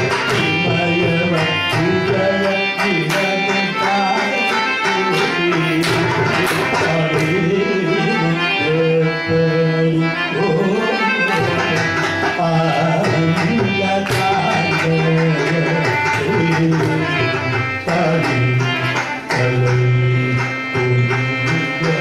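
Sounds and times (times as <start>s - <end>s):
men singing devotional song: 0.0s - 22.0s
sustained harmonium: 0.0s - 22.0s.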